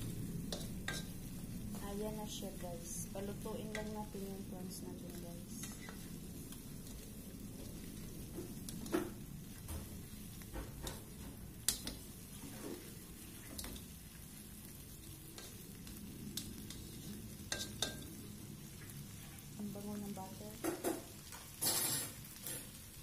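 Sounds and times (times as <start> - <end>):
prawns sizzling in a wok: 0.0 - 23.0.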